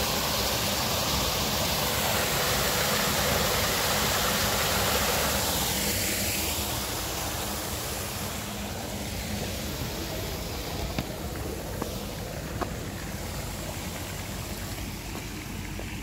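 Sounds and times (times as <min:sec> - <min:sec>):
water rushing through grate: 0:00.0 - 0:16.0
steady low rumble: 0:01.8 - 0:16.0.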